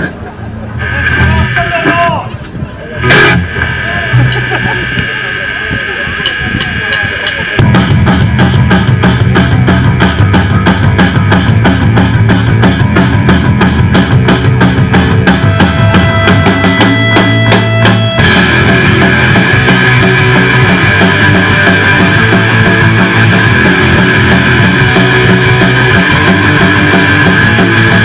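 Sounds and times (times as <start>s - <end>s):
live rock band playing: 0.8s - 28.0s.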